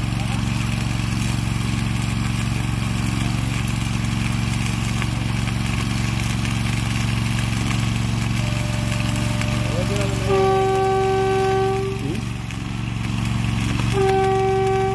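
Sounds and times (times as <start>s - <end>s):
welding machine drone: 0.0s - 14.9s.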